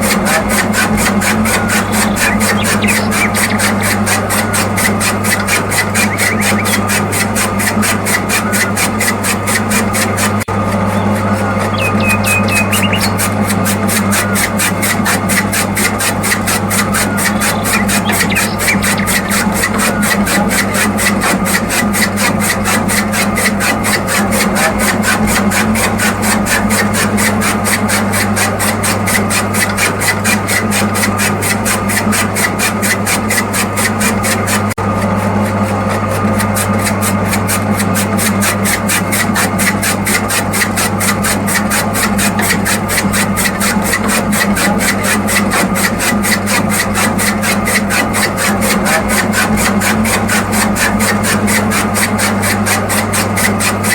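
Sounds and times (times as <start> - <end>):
small motor rattling and humming: 0.0 - 53.9.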